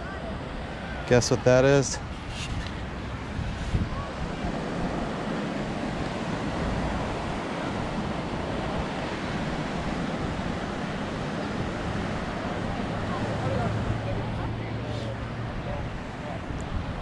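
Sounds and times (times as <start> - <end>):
ocean surf on beach: 0.0 - 17.0
wind noise on microphone: 2.0 - 14.2, 15.4 - 17.0.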